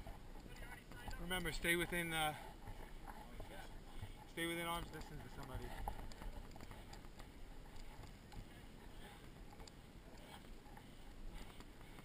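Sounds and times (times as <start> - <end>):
footsteps on trail: 0.0 - 12.0.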